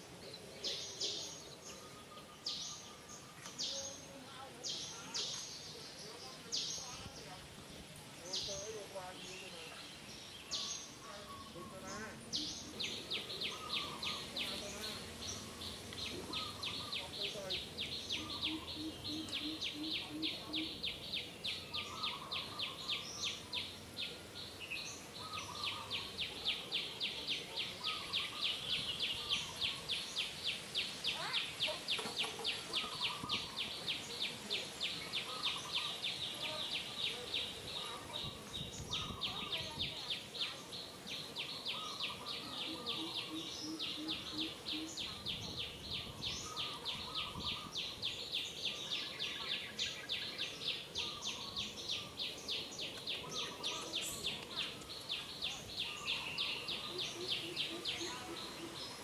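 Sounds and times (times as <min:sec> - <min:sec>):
bird chirps: 0:00.0 - 0:07.2, 0:08.2 - 0:59.0.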